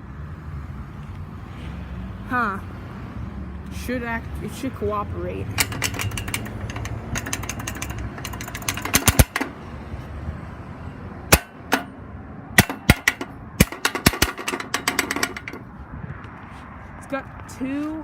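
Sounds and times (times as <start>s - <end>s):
low traffic rumble: 0.0s - 18.0s.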